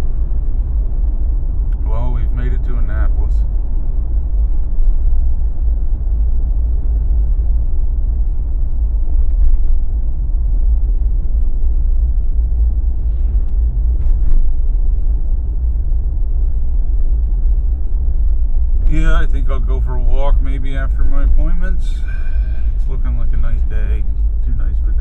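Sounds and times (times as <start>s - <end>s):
vehicle engine and tyre rumble: 0.0s - 25.0s.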